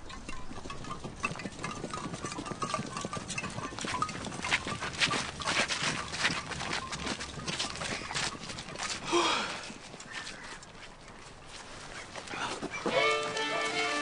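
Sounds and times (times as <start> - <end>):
horse hooves clopping on dirt: 0.0 - 14.0.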